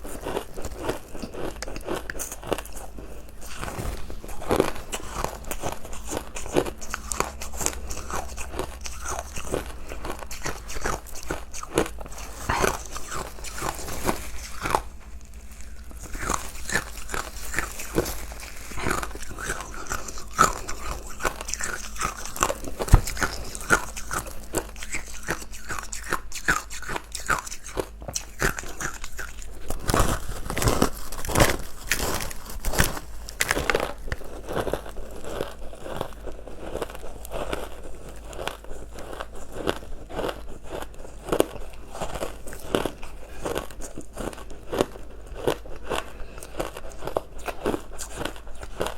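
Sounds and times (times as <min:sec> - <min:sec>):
crunching and chewing ice: 0:00.0 - 0:48.9.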